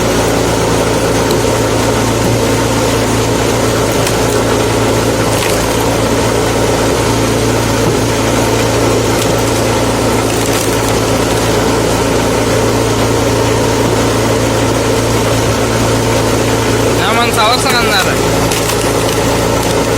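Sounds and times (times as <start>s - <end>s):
petrol engine running: 0.0s - 19.9s.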